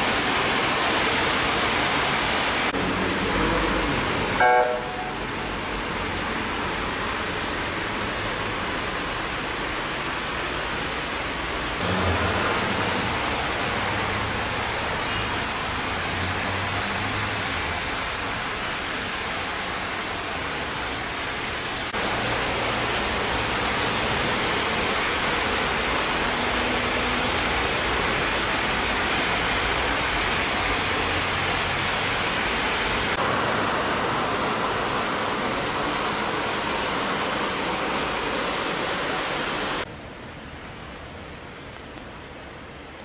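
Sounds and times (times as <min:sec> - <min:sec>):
rain falling on pavement: 0:00.0 - 0:43.0.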